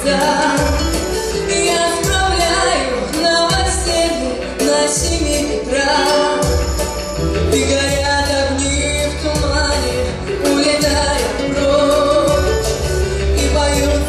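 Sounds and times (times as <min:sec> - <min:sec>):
pulsing bass: 0:00.0 - 0:05.6, 0:06.4 - 0:14.0
gliding melody line: 0:00.0 - 0:14.0.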